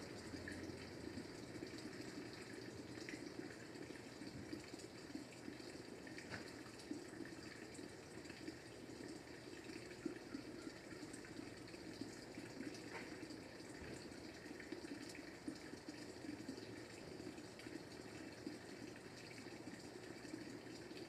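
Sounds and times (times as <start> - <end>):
running water: 0.0 - 21.0.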